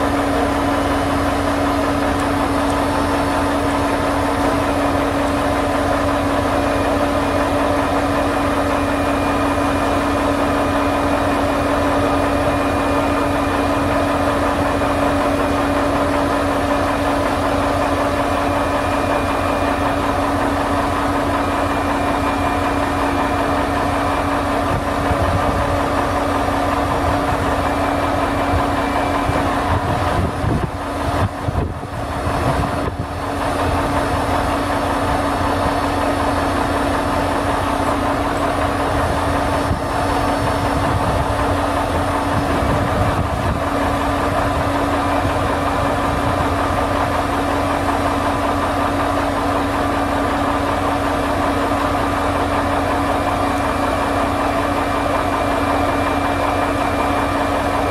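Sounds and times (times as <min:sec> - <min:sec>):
truck engine droning: 0:00.0 - 0:57.9.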